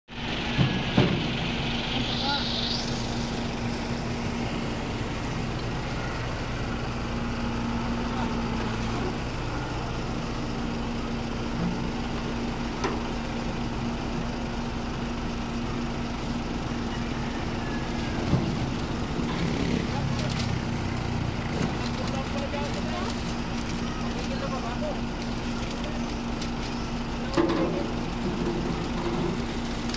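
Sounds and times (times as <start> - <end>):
diesel engine idling: 0.1 - 29.9.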